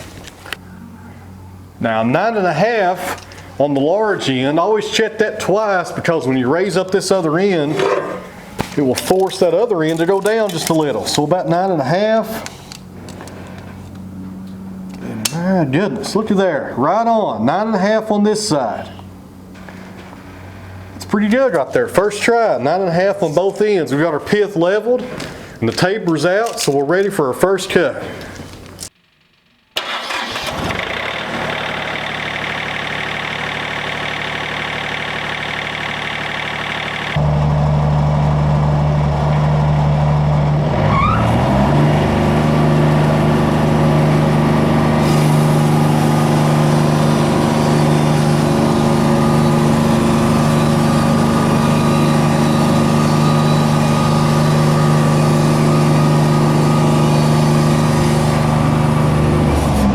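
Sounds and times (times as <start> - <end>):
sawmill engine running: 0.0 - 27.2, 29.8 - 59.9.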